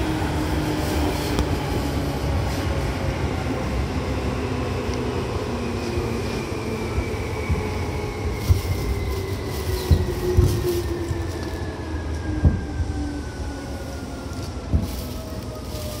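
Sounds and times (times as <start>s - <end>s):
low train rumble: 0.0s - 16.0s.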